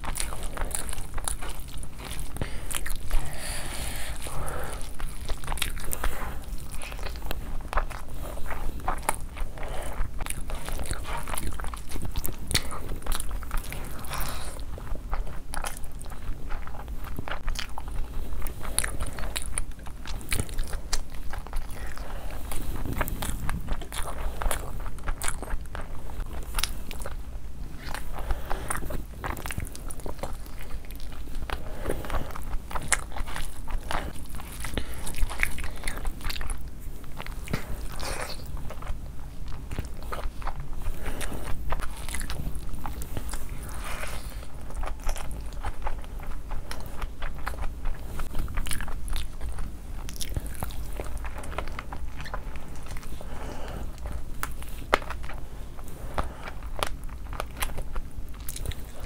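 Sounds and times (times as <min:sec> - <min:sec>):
person chewing and biting food: 0:00.0 - 0:59.0.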